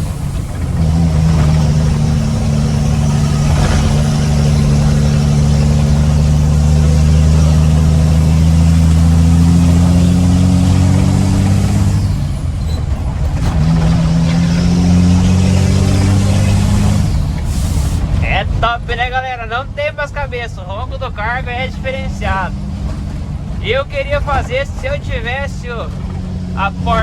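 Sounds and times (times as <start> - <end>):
truck diesel engine revving: 0.0 - 27.0.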